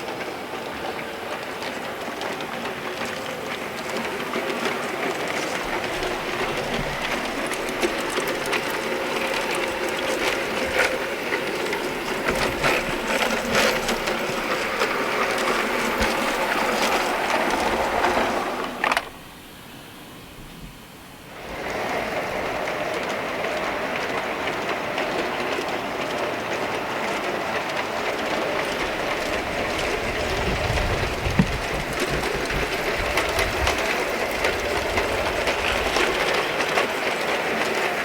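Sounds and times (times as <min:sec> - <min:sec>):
model train motor whirring: 0:00.0 - 0:19.5, 0:21.3 - 0:38.0
wheels clicking over rail joints: 0:00.0 - 0:38.0.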